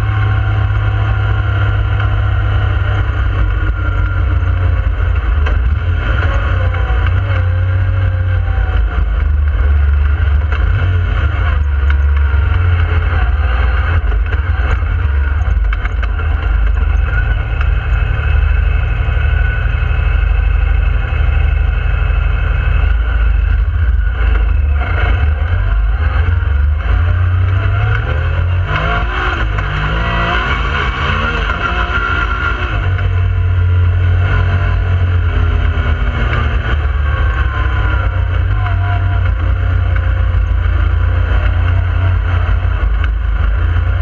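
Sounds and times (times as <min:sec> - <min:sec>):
engine revving: 0:00.0 - 0:44.0.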